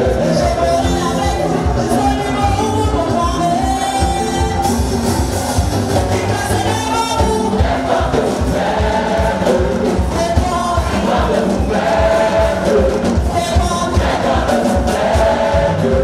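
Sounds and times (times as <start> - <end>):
bass drum beat: 0.0 - 16.0
choir singing over a band: 0.0 - 16.0.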